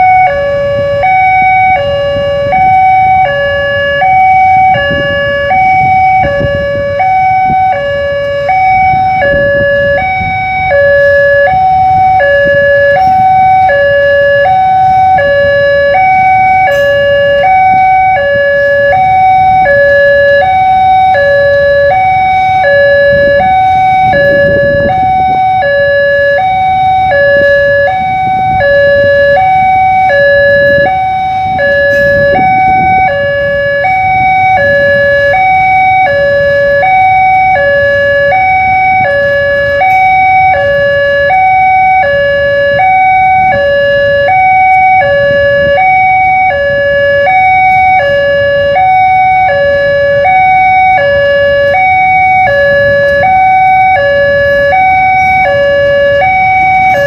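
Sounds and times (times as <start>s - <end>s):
train rumbling past: 0.0s - 46.2s
two-tone crossing alarm: 0.0s - 57.0s.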